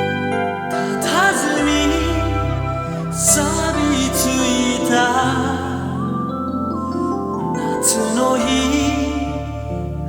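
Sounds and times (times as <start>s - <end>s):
deep bass line: 0.0s - 10.0s
keyboard chords: 0.0s - 10.0s
sliding melody line: 0.0s - 10.0s.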